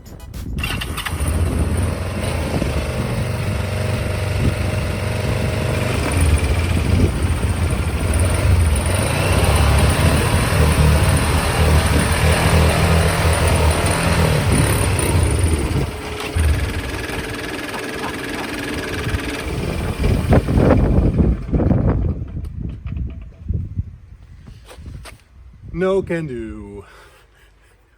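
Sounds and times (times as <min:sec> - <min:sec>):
motorcycle engine running: 0:00.6 - 0:23.4.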